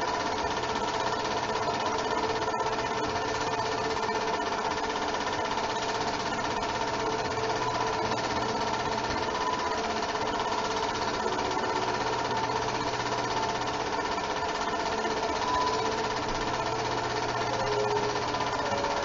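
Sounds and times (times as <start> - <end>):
film projector whir and clatter: 0.0 - 19.0.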